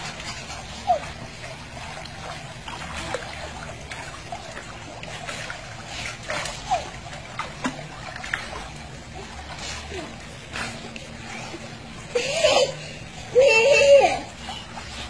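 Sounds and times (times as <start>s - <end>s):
steady low hum: 0.0s - 15.0s
water splashing and trickling: 0.0s - 15.0s.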